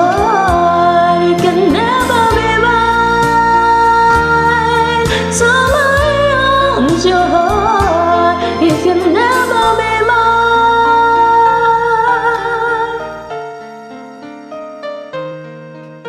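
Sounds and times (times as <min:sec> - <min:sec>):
pop ballad: 0:00.0 - 0:16.0.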